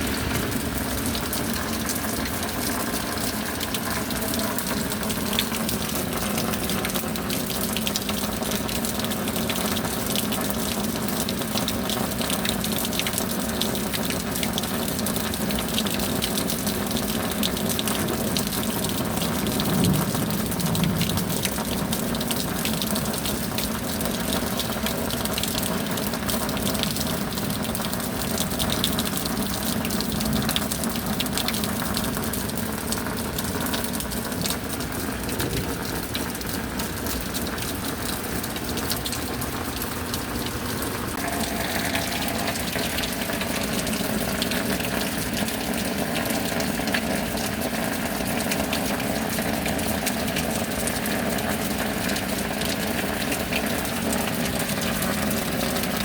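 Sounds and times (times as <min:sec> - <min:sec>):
heavy rain: 0:00.0 - 0:56.0
water gushing: 0:00.0 - 0:56.0.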